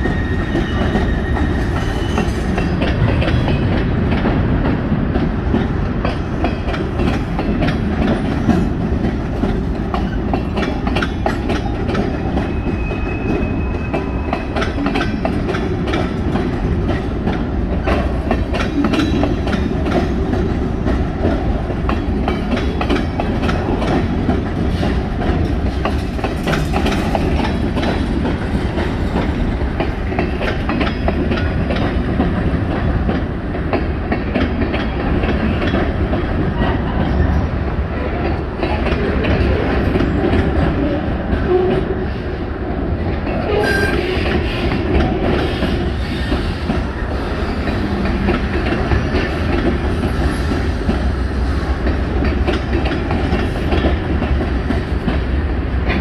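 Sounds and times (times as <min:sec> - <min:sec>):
clickety-clack over rail joints: 0:00.0 - 0:56.0
freight train wheels rumbling: 0:00.0 - 0:56.0.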